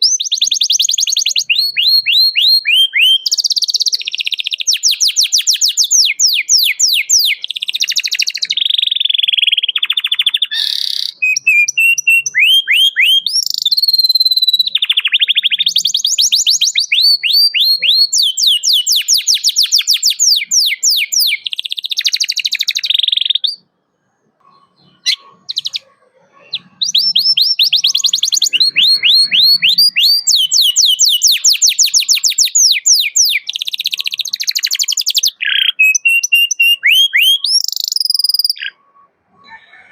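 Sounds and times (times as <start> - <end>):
canary singing trills: 0.0 - 39.8.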